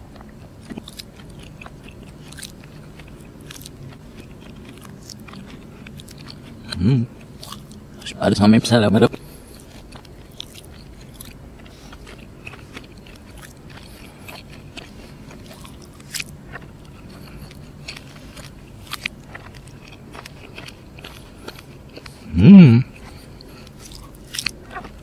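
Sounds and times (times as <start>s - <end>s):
chewing crunchy fried chicken: 0.0s - 25.0s.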